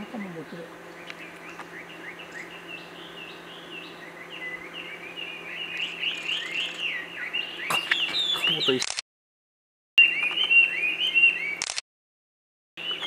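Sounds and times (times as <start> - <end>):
small bird chirping: 0.0 - 8.9, 10.0 - 11.8.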